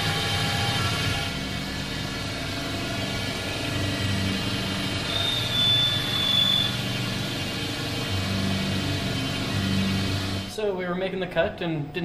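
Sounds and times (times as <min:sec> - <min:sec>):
lathe spindle humming: 0:00.0 - 0:10.5
thin high whine: 0:00.0 - 0:12.0.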